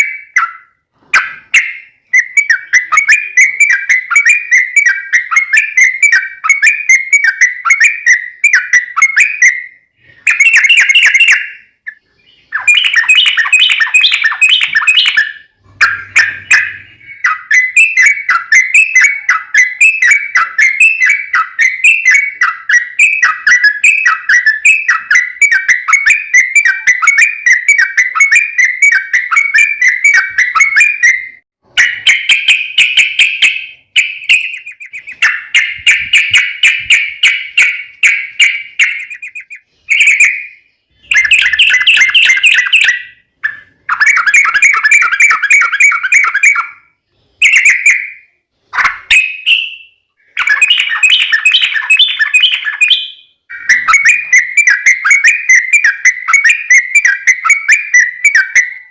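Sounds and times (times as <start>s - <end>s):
bulbul chattering song: 0.0s - 58.9s.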